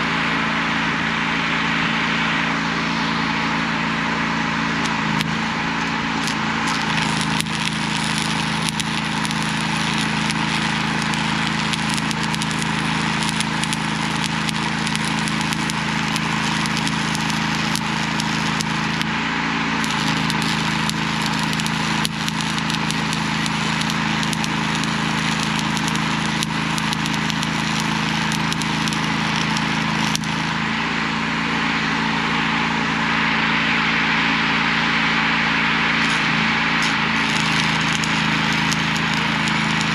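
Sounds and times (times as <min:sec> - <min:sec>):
engine running: 0:00.0 - 0:39.9
arc welding crackling: 0:01.0 - 0:33.9, 0:34.9 - 0:39.9.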